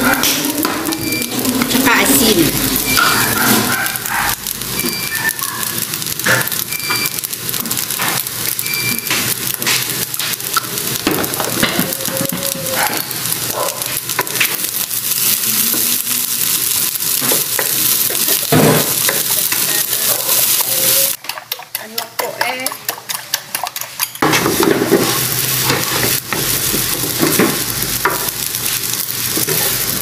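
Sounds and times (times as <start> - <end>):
rice sizzling in a pan: 0.0 - 30.0.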